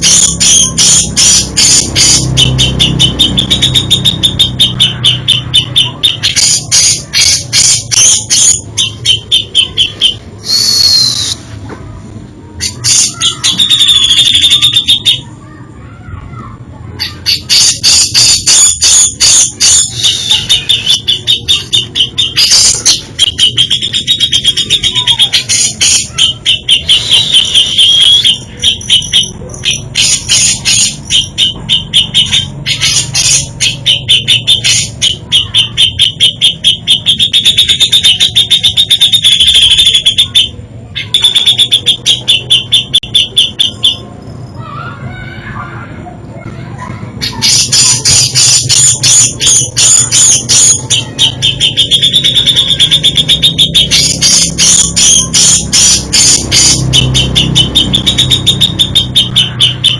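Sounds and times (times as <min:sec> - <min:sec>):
bulbul singing: 0:00.0 - 0:11.6, 0:12.5 - 0:59.9.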